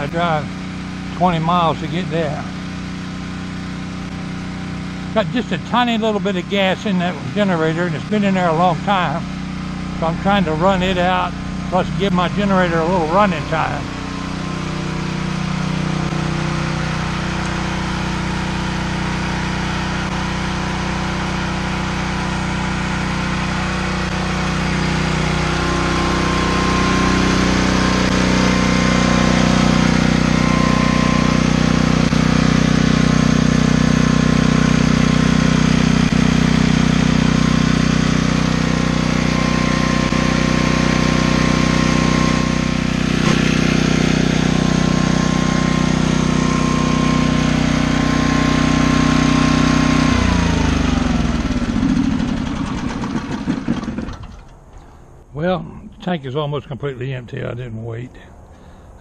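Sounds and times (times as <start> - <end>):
generator engine running: 0.0 - 57.6.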